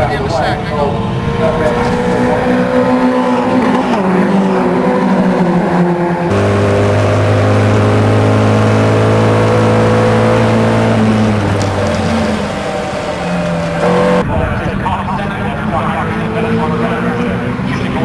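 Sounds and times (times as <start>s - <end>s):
racing engines: 0.0s - 18.0s.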